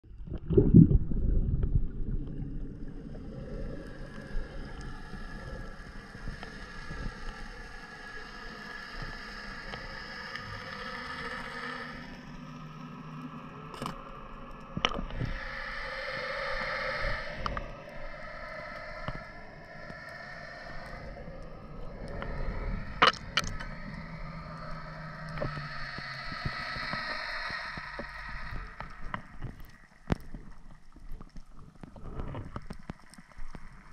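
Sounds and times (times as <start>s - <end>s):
rush of water: 0.2s - 33.9s
underwater boat engine drone: 0.4s - 33.9s.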